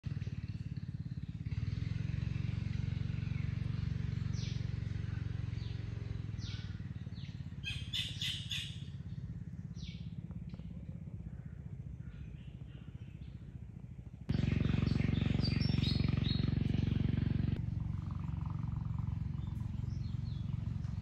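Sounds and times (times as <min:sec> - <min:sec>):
low engine rumble: 0:00.0 - 0:21.0
birds chirping: 0:00.1 - 0:21.0.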